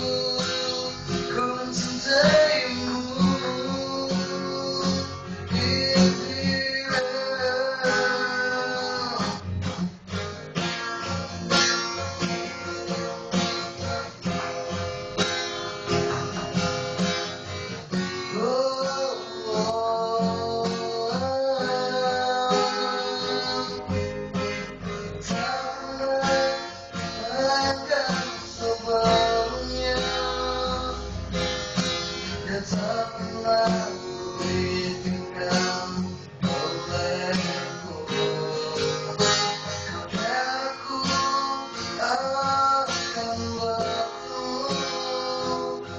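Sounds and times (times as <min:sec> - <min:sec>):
person singing: 0:00.0 - 0:09.6, 0:17.9 - 0:45.9
acoustic guitar strummed: 0:00.0 - 0:45.9.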